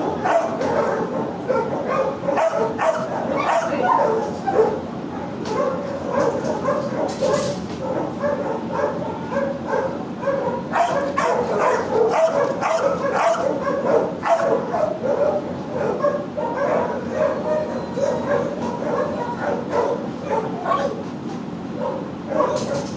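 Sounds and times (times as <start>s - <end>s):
many dogs barking: 0.0s - 21.1s, 21.7s - 22.9s.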